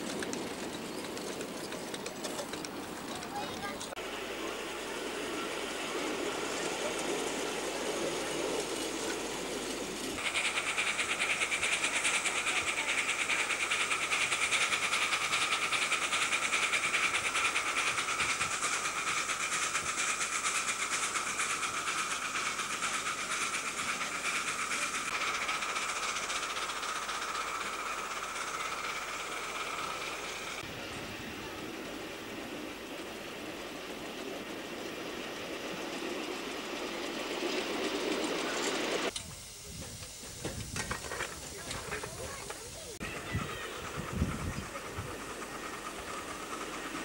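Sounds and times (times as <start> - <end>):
miniature locomotive running: 0.0 - 47.0.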